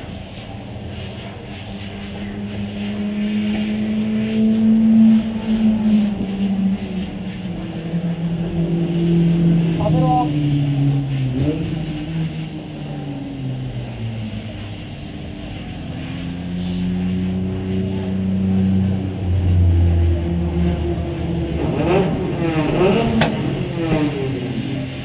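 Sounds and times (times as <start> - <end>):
race car engine running: 0.0 - 25.0.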